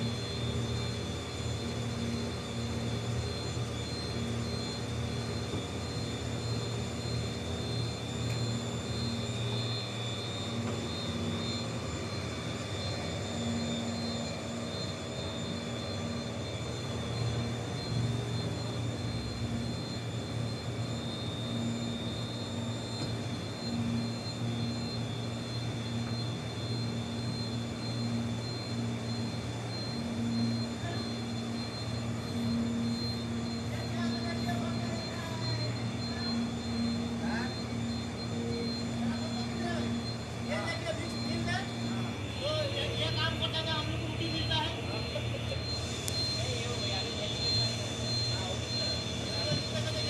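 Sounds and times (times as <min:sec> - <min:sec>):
mixing mill machinery drone: 0:00.0 - 0:50.0.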